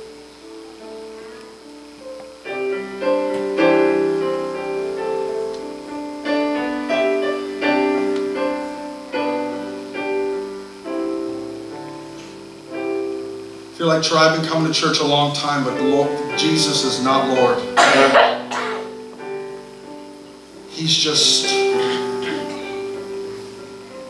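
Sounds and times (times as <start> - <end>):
piano playing gentle chords: 0.0 - 24.0.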